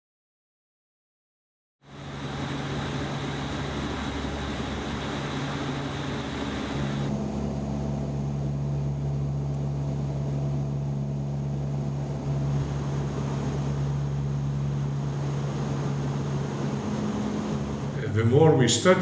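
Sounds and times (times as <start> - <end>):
low engine drone: 1.8 - 19.0.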